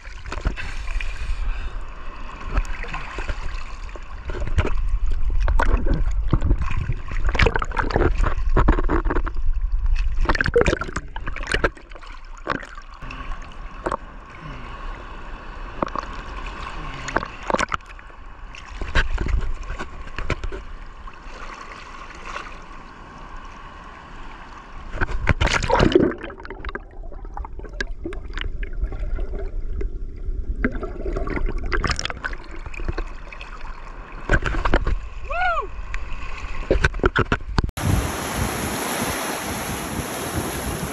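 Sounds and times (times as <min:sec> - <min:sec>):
seawater splashing and gurgling: 0:00.0 - 0:40.9.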